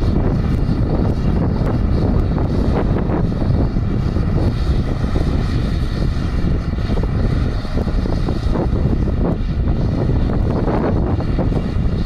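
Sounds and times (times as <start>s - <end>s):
combine harvester rumbling: 0.0s - 12.0s.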